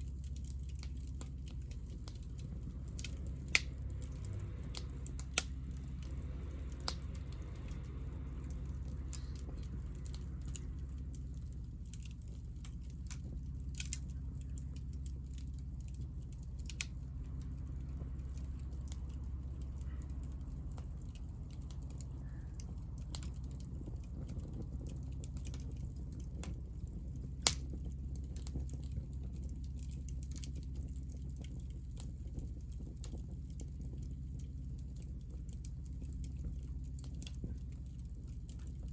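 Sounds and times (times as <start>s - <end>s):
low rumble: 0.0s - 38.9s
wood fire crackling: 0.0s - 38.9s.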